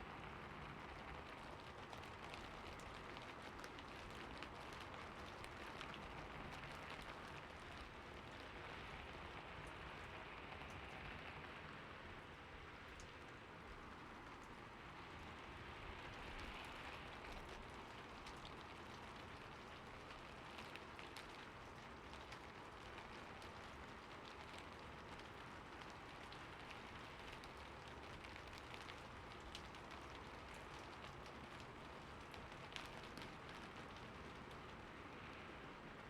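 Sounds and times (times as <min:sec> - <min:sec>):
rain on hard surfaces: 0:00.0 - 0:36.0.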